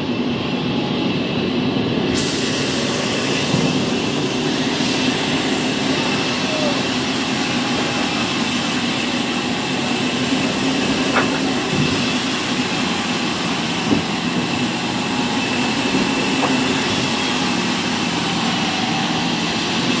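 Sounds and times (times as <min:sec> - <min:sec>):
band saw humming and hissing: 0:00.0 - 0:20.0.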